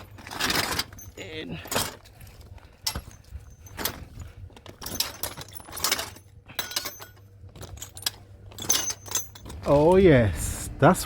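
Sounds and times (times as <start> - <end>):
scrap metal clanking: 0.0 - 10.0
rummaging through metal: 0.0 - 10.4.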